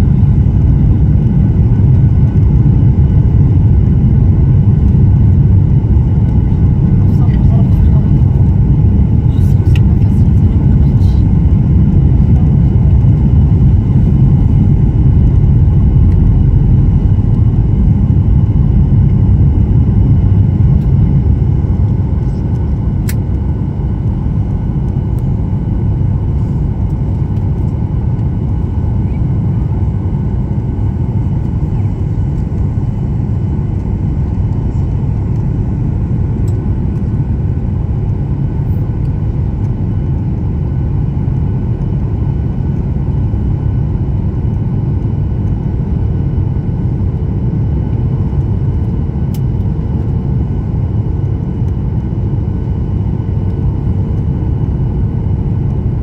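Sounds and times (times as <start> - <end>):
airliner engines rumbling: 0.0 - 56.0.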